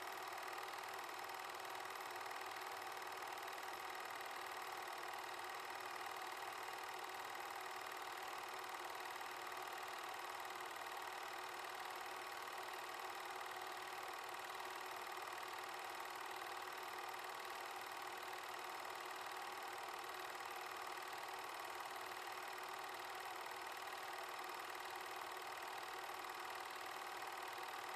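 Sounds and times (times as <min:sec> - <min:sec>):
film projector whirring and clattering: 0:00.0 - 0:27.9.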